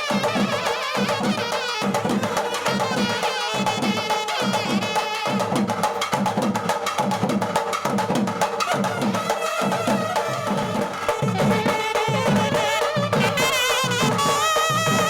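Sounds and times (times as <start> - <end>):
drum beating steady rhythm: 0.0 - 15.0.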